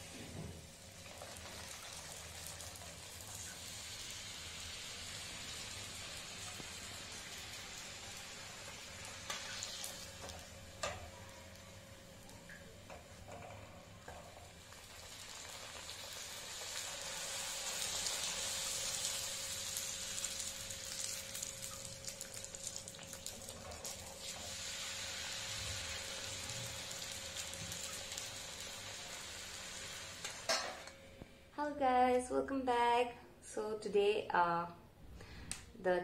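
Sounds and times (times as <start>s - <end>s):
dough deep-frying in oil: 0.0s - 30.9s.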